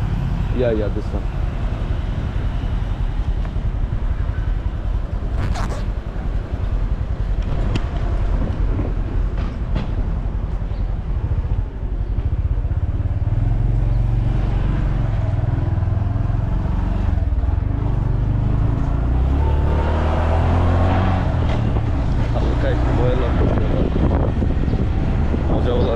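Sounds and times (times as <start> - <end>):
motorcycle engine and road rumble: 0.0 - 25.9.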